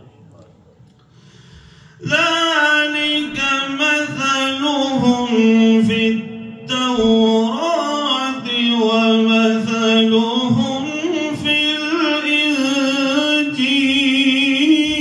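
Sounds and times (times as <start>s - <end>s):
man chanting: 2.0s - 15.0s.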